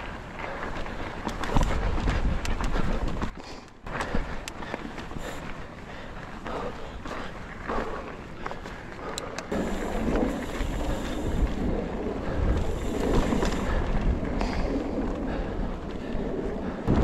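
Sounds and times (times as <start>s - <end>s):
bike rattling over stones: 0.0s - 17.0s
bike tyres rolling on rocks: 0.0s - 17.0s
wind buffeting microphone: 0.0s - 17.0s.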